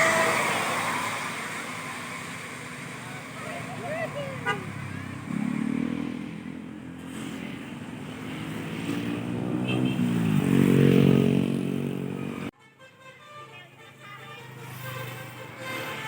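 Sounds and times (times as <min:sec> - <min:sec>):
bus passing: 0:00.0 - 0:16.0.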